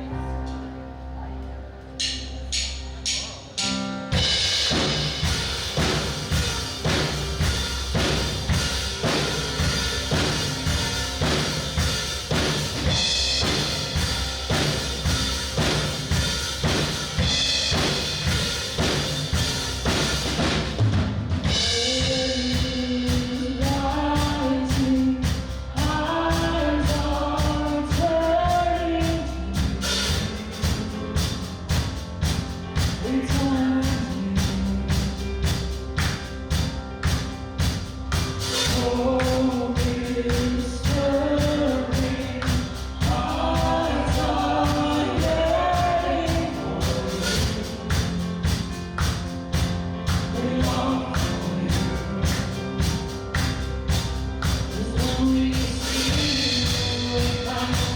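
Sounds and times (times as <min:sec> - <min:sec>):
drum kit beat: 0:02.0 - 0:57.9
worship band playing: 0:02.0 - 0:57.9
melody over drums: 0:04.1 - 0:27.6, 0:29.0 - 0:57.9.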